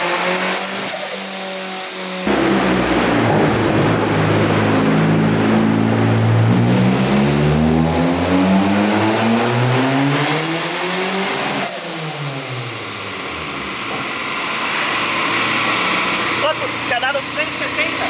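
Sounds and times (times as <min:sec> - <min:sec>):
high turbo whistle: 0:00.0 - 0:16.2
car engine revving at full throttle: 0:00.0 - 0:18.0.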